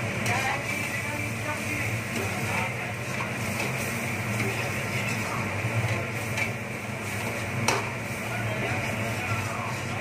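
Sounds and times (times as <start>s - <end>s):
frying hiss: 0.0s - 10.0s
ladle scraping in a pan: 0.2s - 10.0s.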